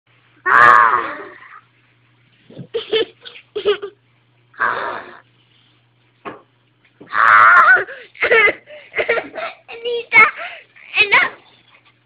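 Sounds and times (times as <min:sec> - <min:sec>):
low electrical hum: 0:00.1 - 0:12.0.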